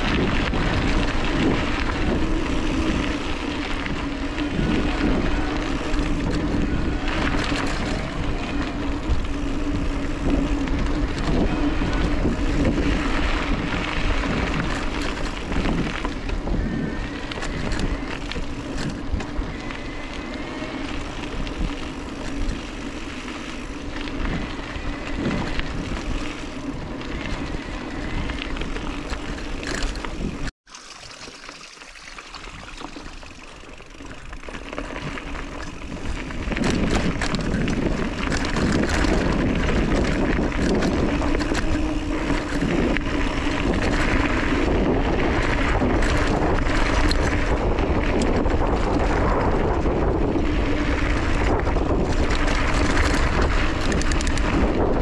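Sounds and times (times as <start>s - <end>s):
tyres rolling on dirt track: 0.0s - 30.5s, 31.4s - 55.0s
wind buffeting microphone: 0.0s - 30.5s, 34.2s - 55.0s.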